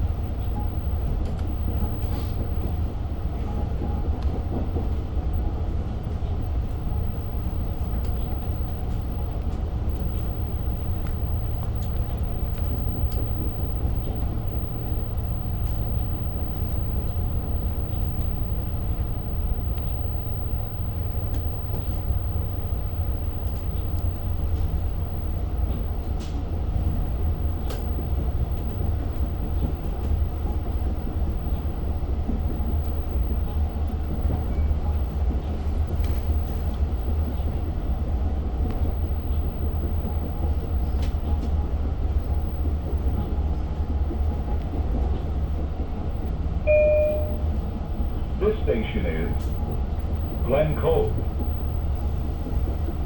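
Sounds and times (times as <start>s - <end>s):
train rumble from inside coach: 0.0s - 53.0s.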